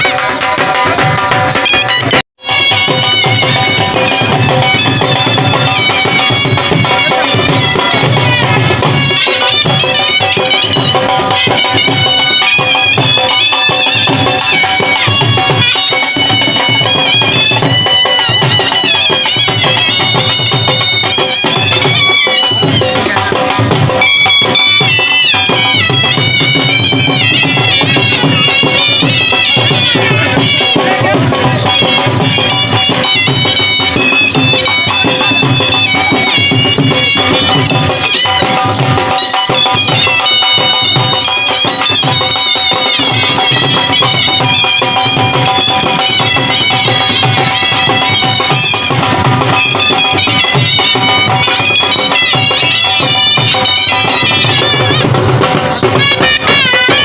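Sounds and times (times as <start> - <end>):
reedy wind instrument melody: 0.0 - 57.0
steady drum beat: 0.0 - 57.0.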